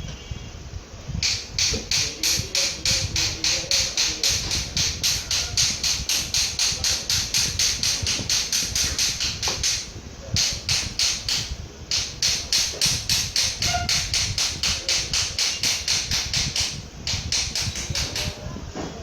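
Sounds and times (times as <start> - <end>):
rapid scrubbing strokes: 1.2 - 18.4.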